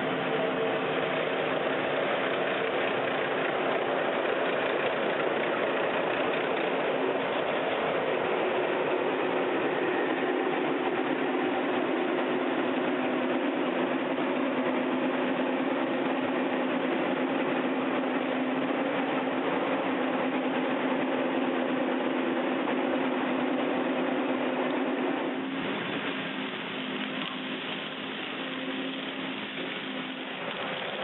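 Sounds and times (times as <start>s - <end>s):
skid steer engine running: 0.0s - 31.0s.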